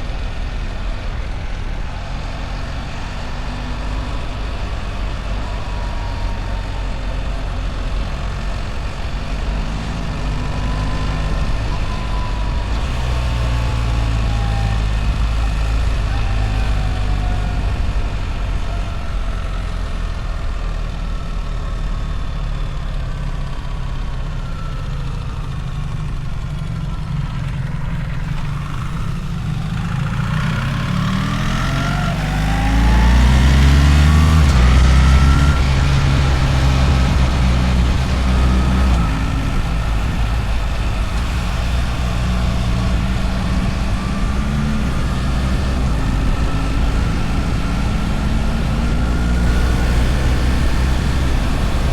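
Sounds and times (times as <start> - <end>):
motorcycle engine revving: 0.1 - 21.9, 23.2 - 51.9.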